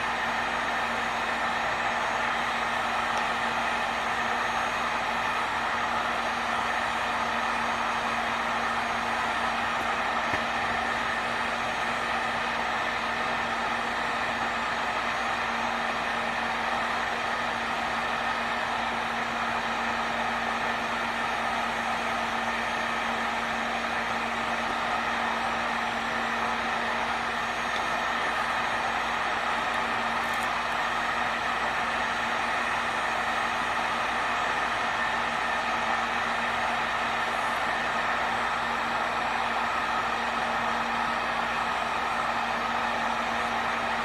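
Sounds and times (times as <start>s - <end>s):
heat gun blowing with low hum: 0.0s - 44.0s.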